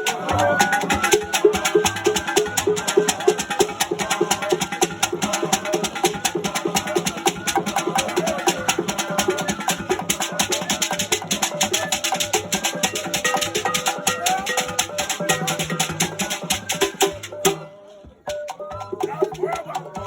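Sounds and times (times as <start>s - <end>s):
fast rattling percussion groove: 0.0s - 20.0s.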